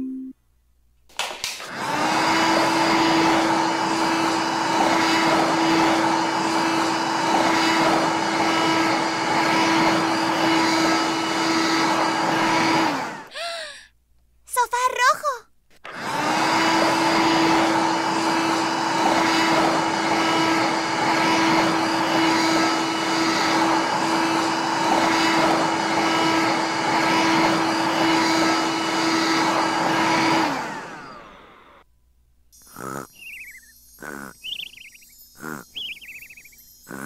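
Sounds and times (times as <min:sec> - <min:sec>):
motor winding down: 0:01.6 - 0:13.7, 0:15.8 - 0:31.8, 0:32.6 - 0:37.0
toy vacuum cleaner whining: 0:01.6 - 0:13.7, 0:15.8 - 0:31.8, 0:32.6 - 0:37.0.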